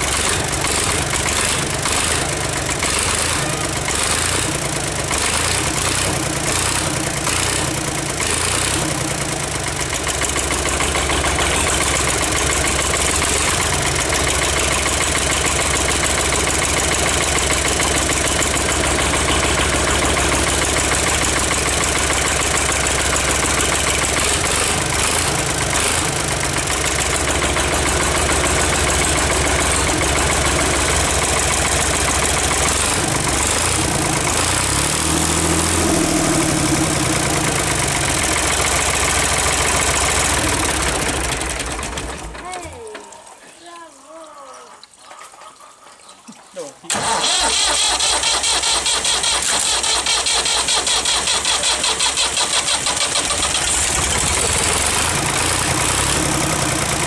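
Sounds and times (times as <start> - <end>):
diesel engine idling: 0.0 - 42.7, 46.9 - 57.0.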